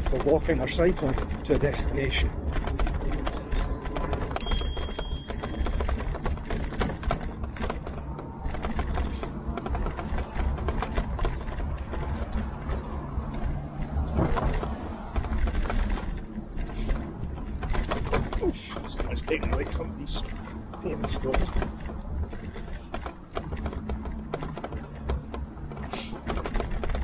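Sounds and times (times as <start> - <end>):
bike rattling clatter: 0.0 - 27.0
tyres and wind rumble: 0.0 - 27.0.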